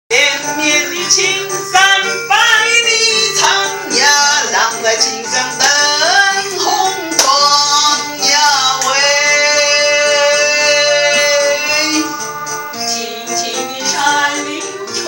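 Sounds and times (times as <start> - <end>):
instrumental accompaniment: 0.1 - 15.0
woman singing: 0.1 - 15.0.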